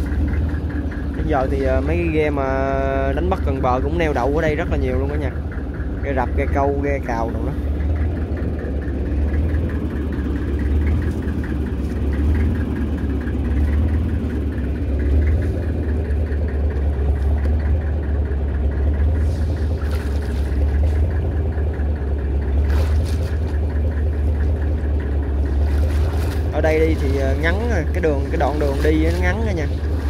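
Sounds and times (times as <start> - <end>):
boat engine humming with ticking: 0.0 - 30.0.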